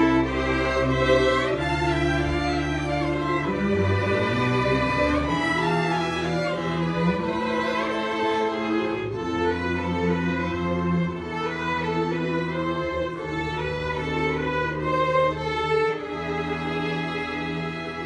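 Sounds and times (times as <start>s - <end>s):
string ensemble playing: 0.0s - 18.0s.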